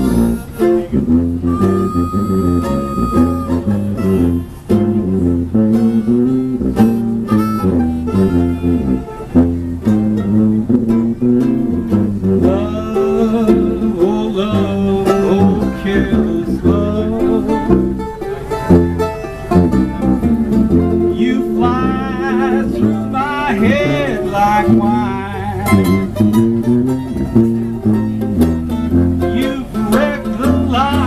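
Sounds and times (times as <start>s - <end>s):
harmonica wavering notes: 0.0s - 31.0s
picked mandolin: 0.0s - 31.0s
tuba bass line: 0.0s - 31.0s.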